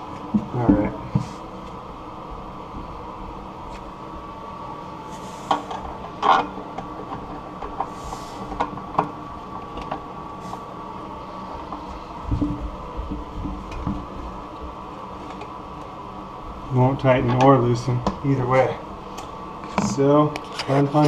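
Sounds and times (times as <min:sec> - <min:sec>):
exhaust fan humming: 0:00.0 - 0:21.0.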